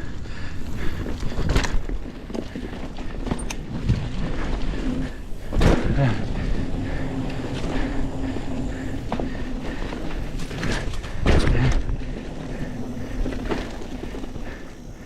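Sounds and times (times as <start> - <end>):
bike tyre and frame rattle: 0.0 - 15.0
bike jolting clatters: 0.6 - 15.0.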